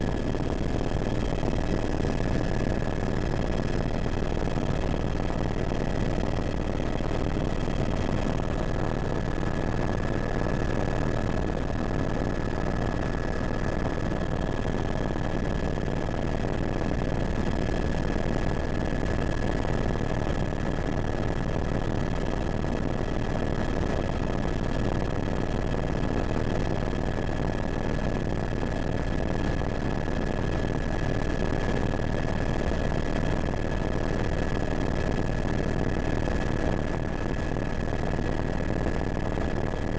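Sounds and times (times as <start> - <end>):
helicopter drone and whine: 0.0 - 39.9.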